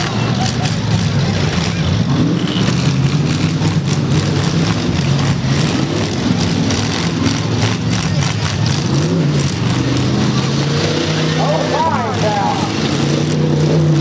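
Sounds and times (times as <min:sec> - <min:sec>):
car engines droning: 0:00.0 - 0:14.0.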